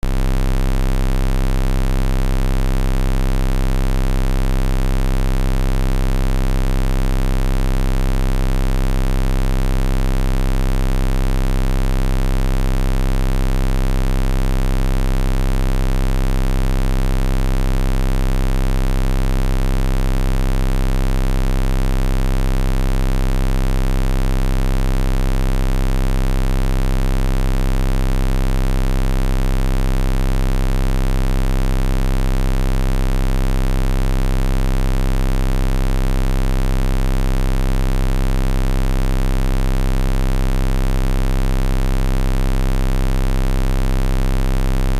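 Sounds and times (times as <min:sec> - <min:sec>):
electronic vocoder buzz: 0:00.0 - 0:44.9.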